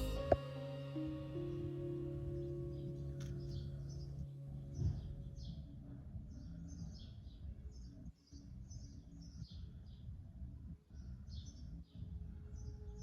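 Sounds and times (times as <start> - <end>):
low background rumble: 0.0 - 12.6.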